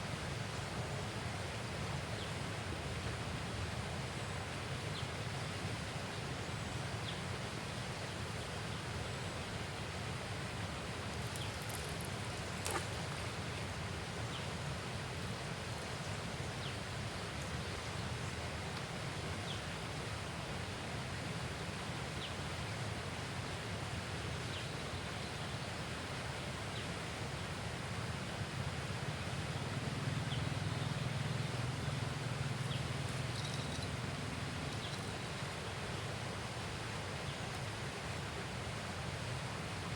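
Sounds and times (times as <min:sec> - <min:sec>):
wind and leaves hissing: 0:00.0 - 0:39.9.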